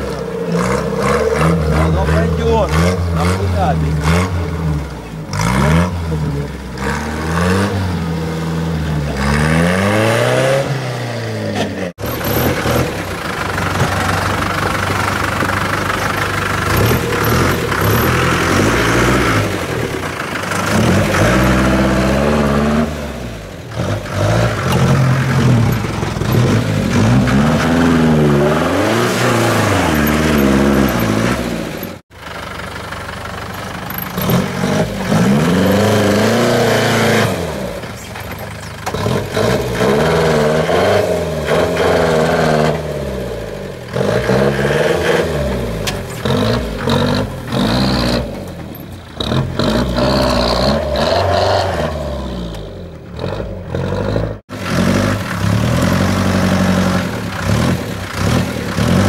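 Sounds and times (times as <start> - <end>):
engine revving: 0.0 - 32.3, 33.8 - 59.0.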